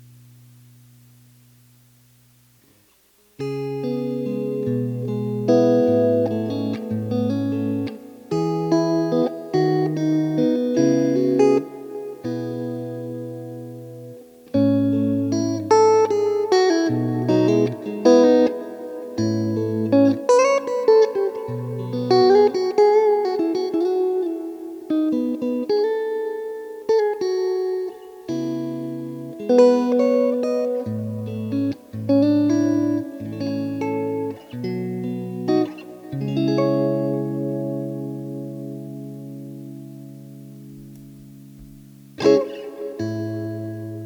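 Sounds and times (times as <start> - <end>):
guitar with delay and reverb: 0.0 - 44.0.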